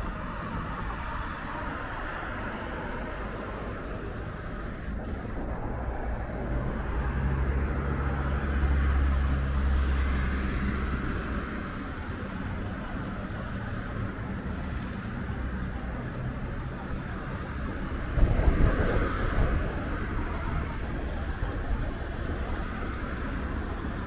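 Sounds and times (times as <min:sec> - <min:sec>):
barge diesel engine drone: 0:00.0 - 0:24.0.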